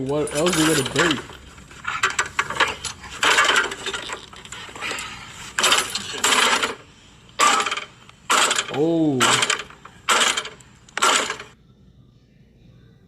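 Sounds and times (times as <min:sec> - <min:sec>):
lawnmower rasping and clattering: 0:00.0 - 0:11.6.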